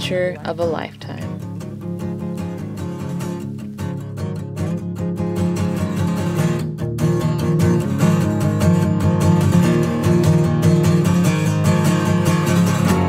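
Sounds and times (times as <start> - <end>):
strummed guitar music: 0.0 - 13.0.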